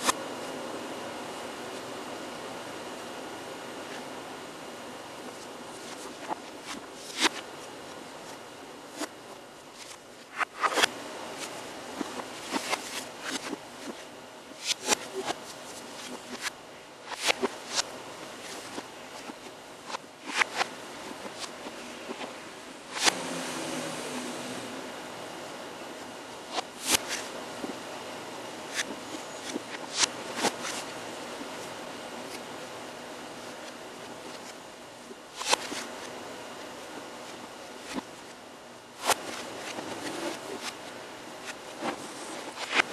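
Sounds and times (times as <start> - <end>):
steady hiss: 0.0 - 42.9.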